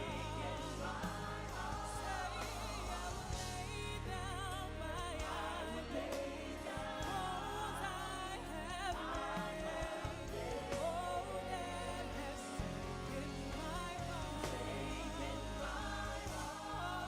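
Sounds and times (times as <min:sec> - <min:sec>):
instrumental backing with low bass: 0:00.0 - 0:17.0
voices singing with vibrato: 0:00.0 - 0:17.0.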